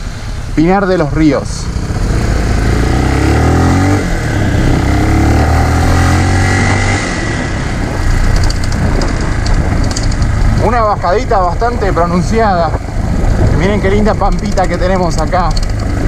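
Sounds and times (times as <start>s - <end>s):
wind and road noise: 0.0s - 16.0s
motorcycle engine running: 1.4s - 16.0s.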